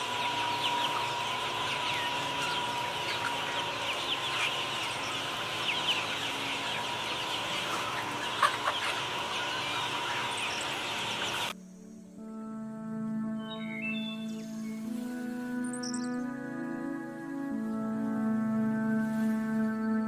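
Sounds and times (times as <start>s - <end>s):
chickens clucking and peeping: 0.0s - 11.6s, 14.3s - 20.0s
steady background tone: 0.0s - 20.0s.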